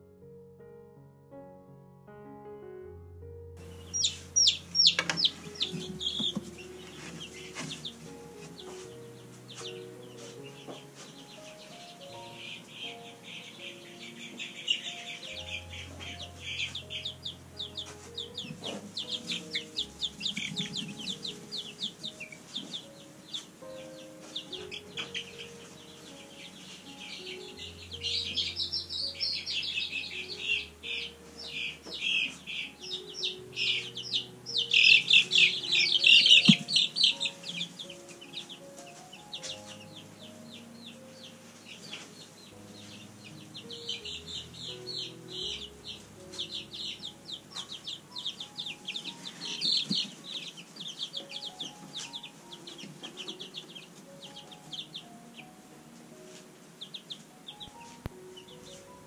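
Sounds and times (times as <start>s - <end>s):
quiet background music: 0.0s - 59.0s
chicks peeping: 3.6s - 59.0s.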